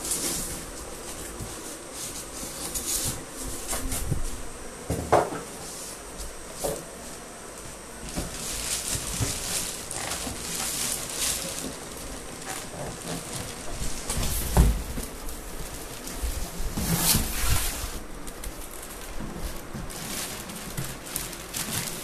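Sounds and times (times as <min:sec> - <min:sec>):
packaging rustling and scraping: 0:00.0 - 0:22.0.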